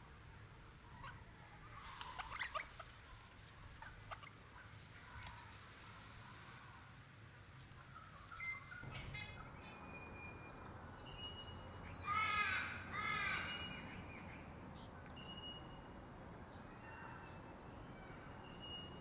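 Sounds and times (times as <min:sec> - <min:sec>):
harsh bird calls: 0:00.9 - 0:06.8, 0:07.7 - 0:19.0.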